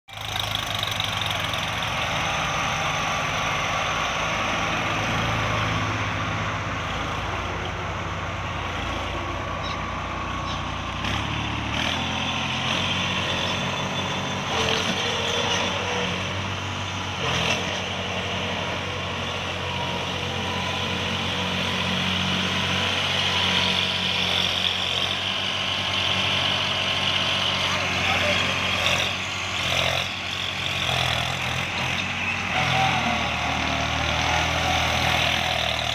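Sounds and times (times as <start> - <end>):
tractor diesel engine under load: 0.1 - 35.9.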